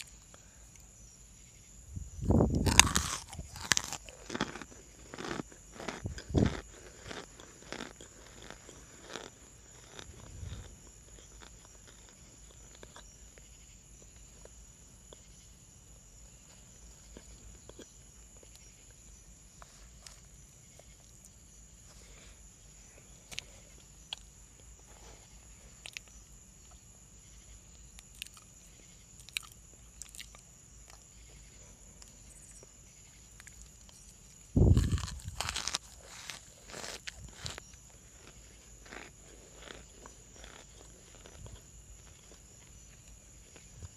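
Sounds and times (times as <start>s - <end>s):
chewing crunchy chunks: 2.4s - 15.3s, 16.3s - 21.4s, 23.2s - 26.8s, 27.7s - 32.7s, 33.3s - 43.9s.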